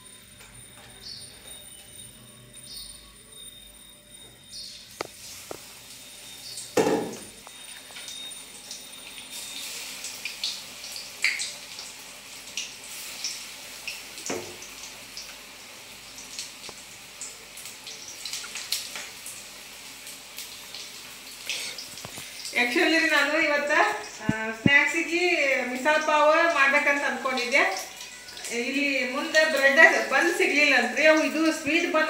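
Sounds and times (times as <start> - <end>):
oil sizzling and popping: 4.8 - 32.0.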